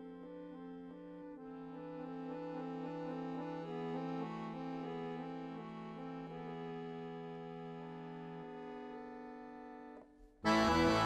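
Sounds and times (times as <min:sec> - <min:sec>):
accordion playing slow tune: 0:00.0 - 0:11.0.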